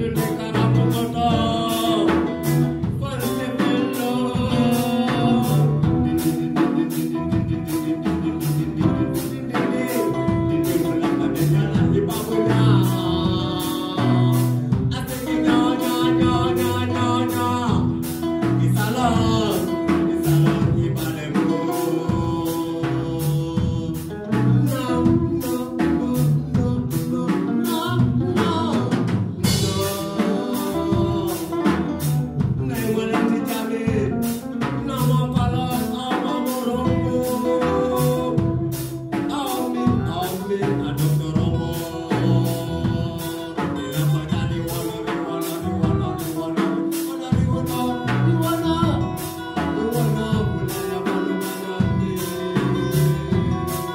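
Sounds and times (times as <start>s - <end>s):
drum kit steady beat: 0.0s - 53.9s
electric bass: 0.0s - 53.9s
electric guitar: 0.0s - 53.9s
person singing into microphone: 0.0s - 53.9s.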